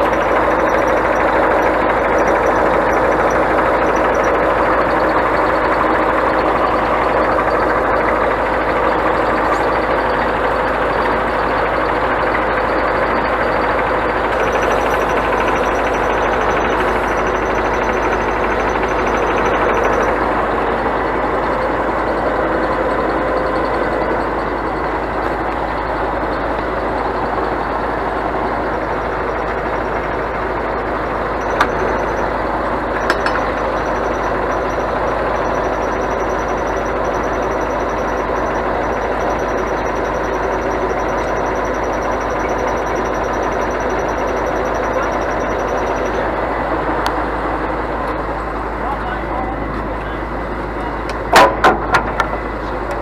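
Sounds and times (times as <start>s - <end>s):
truck engine drone: 0.0s - 53.0s.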